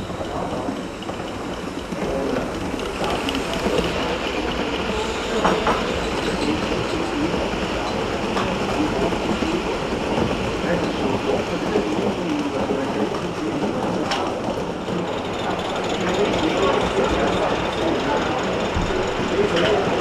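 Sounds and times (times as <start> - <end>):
model train wheels clicking on rails: 0.0 - 20.0.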